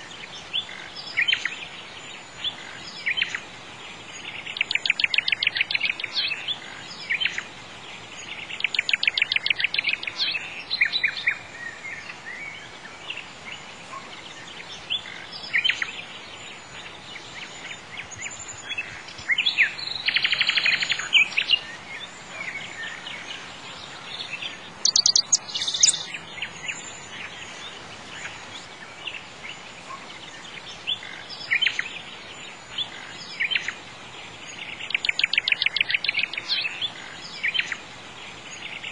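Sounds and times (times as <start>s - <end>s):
faint steady hiss: 0.0s - 38.9s
songbirds chirping and trilling: 0.0s - 38.9s.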